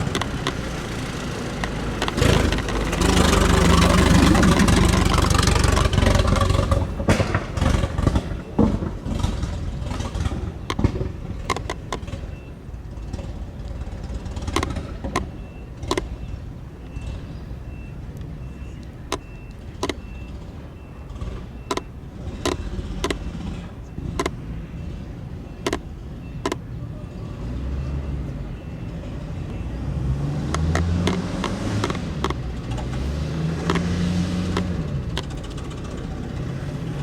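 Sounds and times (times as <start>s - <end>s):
car engine rumbling and popping: 0.0s - 37.0s.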